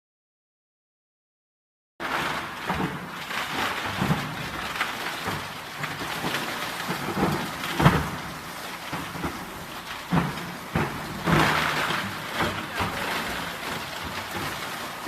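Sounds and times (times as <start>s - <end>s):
granulator crushing plastic: 2.0s - 15.0s.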